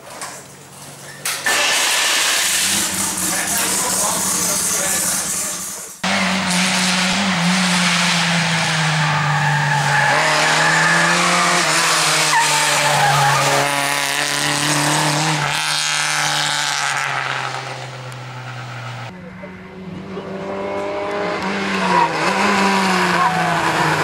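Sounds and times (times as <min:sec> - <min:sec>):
tyre and road noise: 0:00.0 - 0:24.0
rally car engine at high revs: 0:01.4 - 0:24.0.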